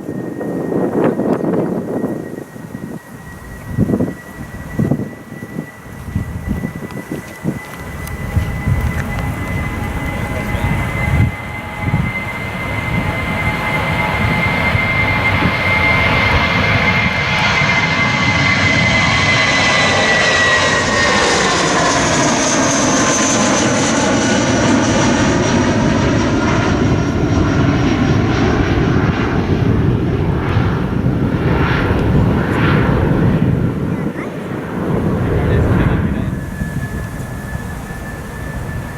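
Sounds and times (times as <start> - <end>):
jet airliner taking off: 0.0 - 38.9.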